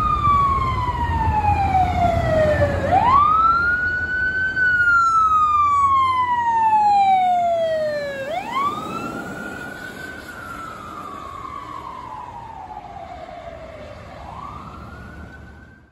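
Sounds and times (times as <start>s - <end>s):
ambulance siren wailing: 0.0s - 15.9s.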